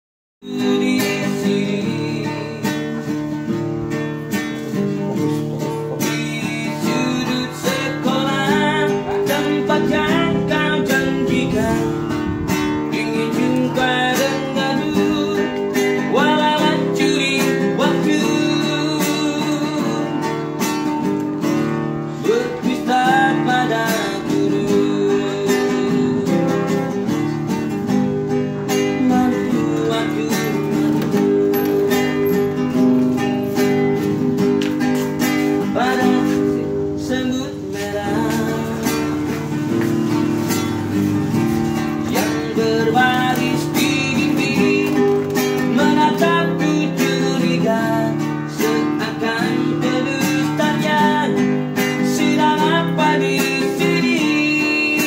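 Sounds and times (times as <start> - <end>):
acoustic guitar strumming chords: 0.4 - 55.0.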